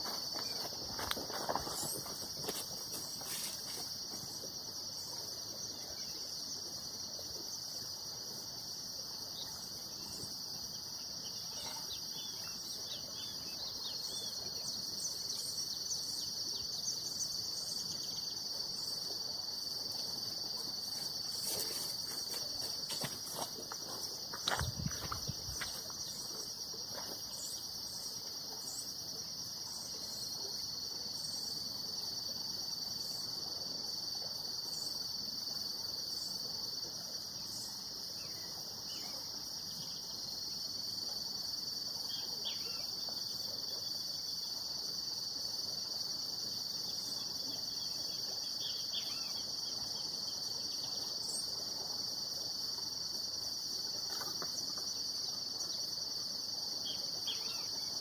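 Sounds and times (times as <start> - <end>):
insect chorus trilling: 0.0 - 58.0.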